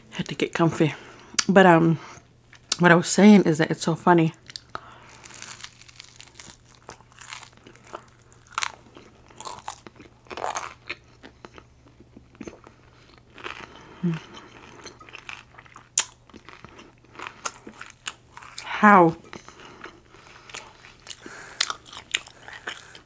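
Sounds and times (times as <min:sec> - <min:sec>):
person chewing crunchy bread: 0:04.4 - 0:23.0.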